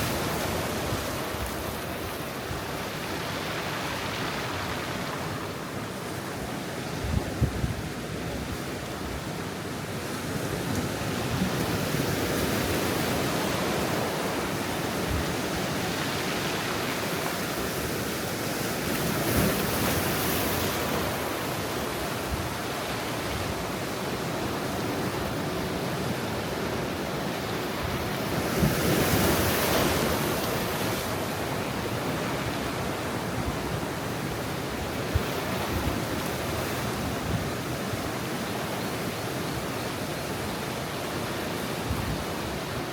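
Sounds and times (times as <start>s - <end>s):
large waves crashing: 0.0s - 42.9s
waves breaking on rocky shore: 0.0s - 42.9s.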